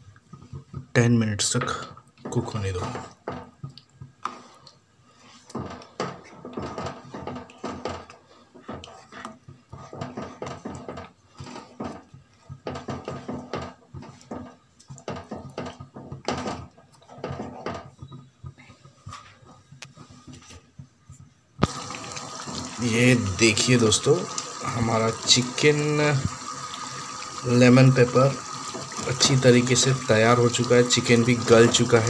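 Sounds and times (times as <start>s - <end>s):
wooden spatula scraping pan: 0.3s - 32.0s.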